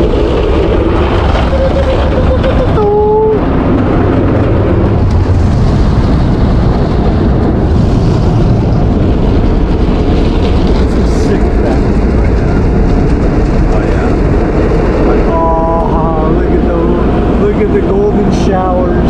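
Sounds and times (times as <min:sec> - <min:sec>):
car wash spraying water and machinery: 0:00.0 - 0:19.0
deep rumble: 0:00.0 - 0:19.0.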